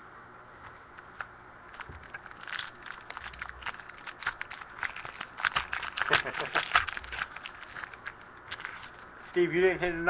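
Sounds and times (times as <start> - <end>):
foil wrapper crinkling and tearing: 1.0 - 9.1.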